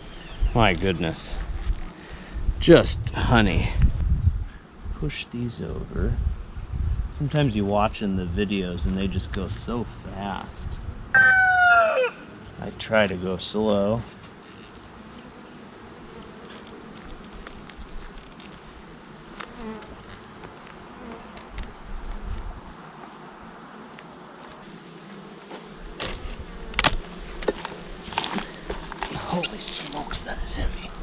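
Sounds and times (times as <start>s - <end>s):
honeybees buzzing: 0.0s - 3.6s, 4.5s - 31.0s.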